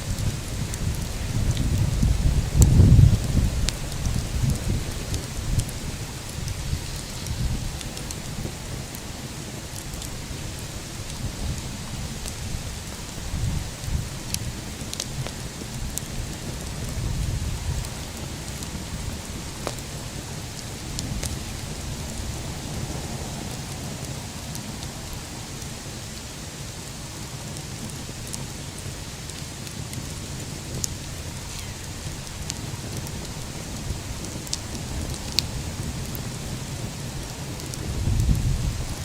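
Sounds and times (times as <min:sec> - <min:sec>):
bonfire crackling and popping: 0:00.0 - 0:39.0.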